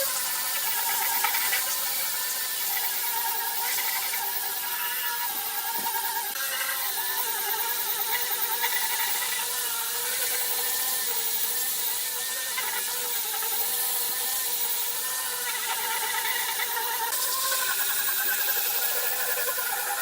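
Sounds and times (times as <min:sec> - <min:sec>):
electric power tool whirring: 0:00.0 - 0:20.0.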